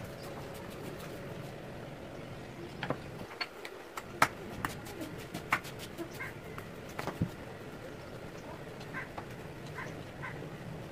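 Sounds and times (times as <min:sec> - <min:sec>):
faint steady hum: 0:00.0 - 0:10.9.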